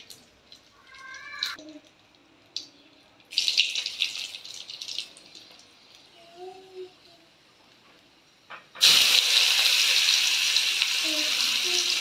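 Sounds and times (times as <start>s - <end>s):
chillies crackling in hot oil: 0.0s - 6.2s, 7.7s - 12.0s
oil sizzling and popping: 0.0s - 6.2s, 7.6s - 12.0s.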